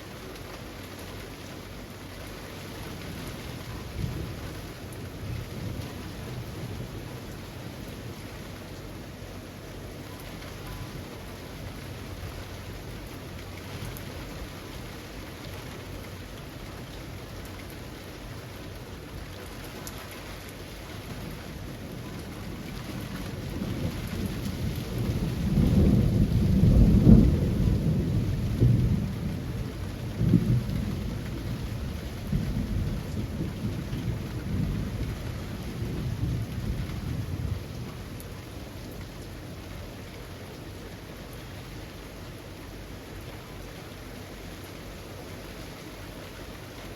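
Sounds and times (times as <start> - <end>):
rain falling on trees: 0.0 - 46.9.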